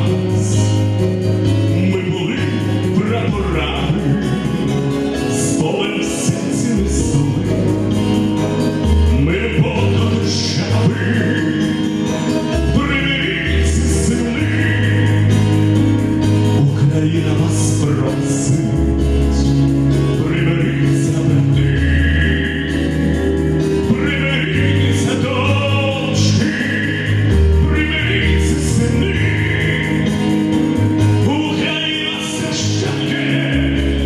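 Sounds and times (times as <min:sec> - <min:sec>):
bass line: 0:00.0 - 0:34.0
instrumental accompaniment: 0:00.0 - 0:34.0
man singing into a microphone: 0:00.0 - 0:34.0.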